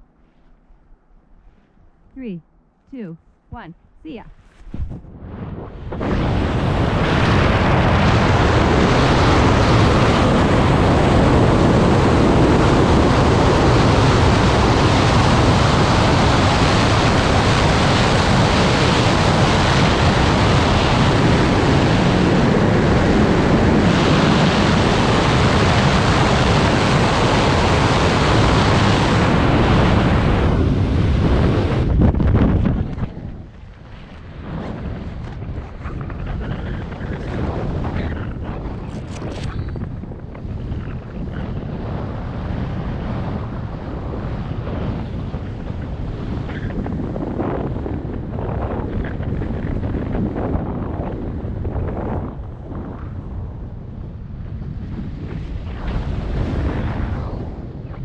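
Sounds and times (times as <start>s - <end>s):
wind buffeting microphone: 3.4s - 58.0s.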